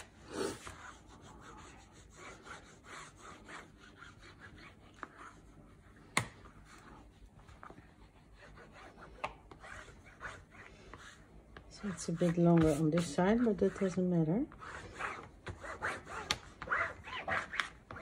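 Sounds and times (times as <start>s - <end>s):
bone folder rubbing fabric: 0.0s - 18.0s.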